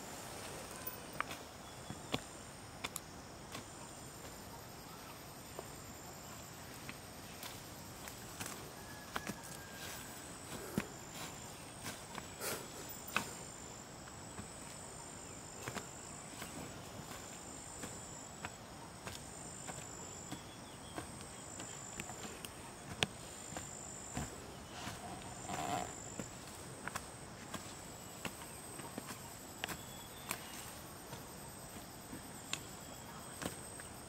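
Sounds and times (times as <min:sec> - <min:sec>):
insect chirping trills: 0:00.0 - 0:34.0.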